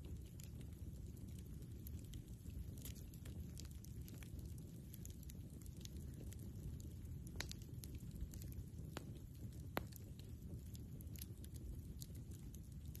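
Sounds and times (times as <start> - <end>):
campfire crackling: 0.0 - 13.0
low steady rumble: 0.0 - 13.0.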